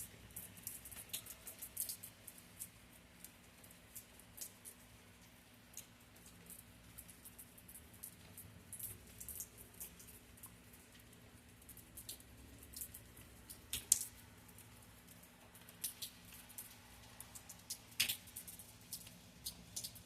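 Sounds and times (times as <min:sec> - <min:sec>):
raindrops ticking and dripping: 0:00.0 - 0:20.0.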